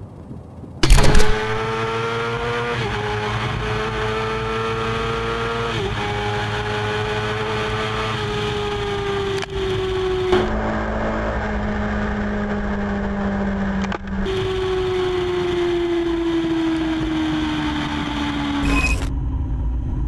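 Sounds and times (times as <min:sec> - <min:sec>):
motorcycle engine accelerating: 0:00.8 - 0:20.0.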